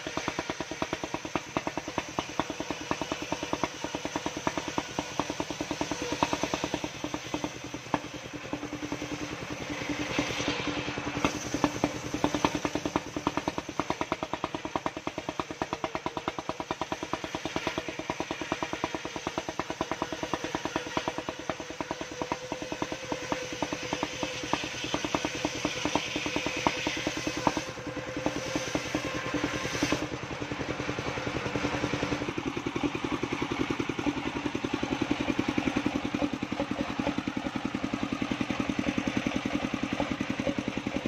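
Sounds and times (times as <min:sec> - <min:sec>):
sawmill engine chugging: 0:00.0 - 0:41.0.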